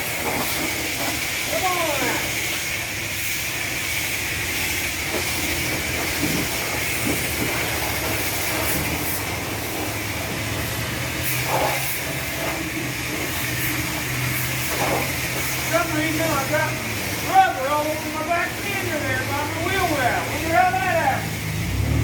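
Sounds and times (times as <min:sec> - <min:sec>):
spray wand jetting water: 0:00.0 - 0:22.0.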